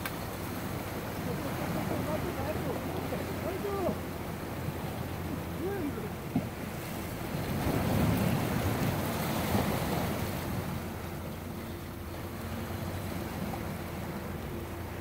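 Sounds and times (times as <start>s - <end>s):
ocean waves on rocky shore: 0.0s - 15.0s.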